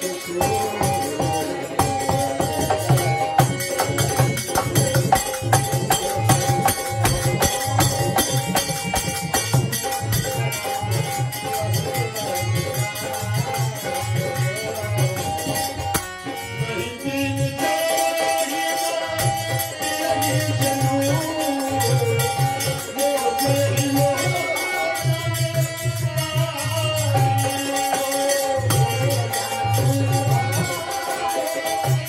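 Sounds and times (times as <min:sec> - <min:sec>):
harmonium sustained tones: 0:00.0 - 0:32.0
jingling brass hand percussion: 0:00.0 - 0:32.0
steady drum beat: 0:00.0 - 0:32.0.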